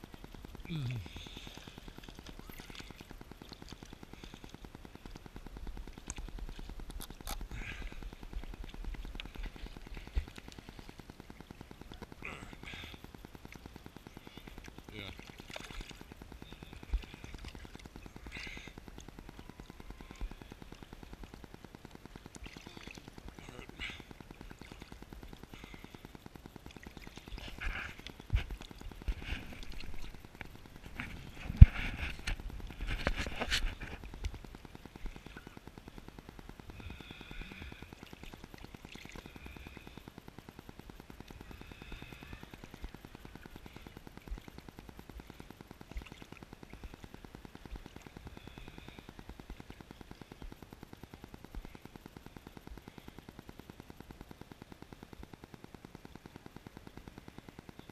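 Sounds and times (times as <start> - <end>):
small waves lapping: 0.0 - 54.4
water splashing against camera: 0.0 - 57.4
fast low ticking: 0.0 - 57.9.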